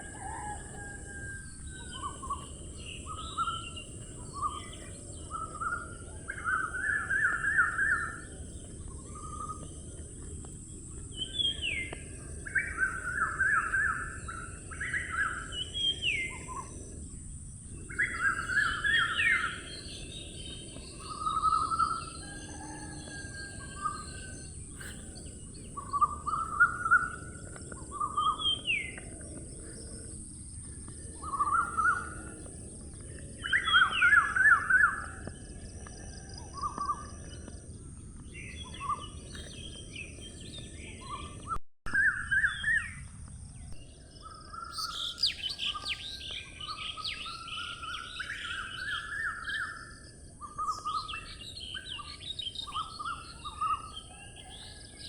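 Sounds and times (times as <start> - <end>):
birds chirping: 0.0 - 17.2, 17.8 - 42.8, 43.6 - 55.0.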